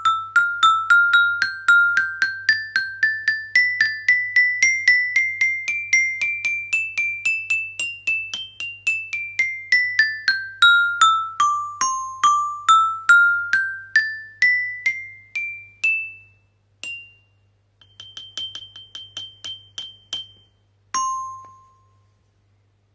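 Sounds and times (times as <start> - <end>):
glockenspiel notes struck with mallet: 0.0 - 22.2.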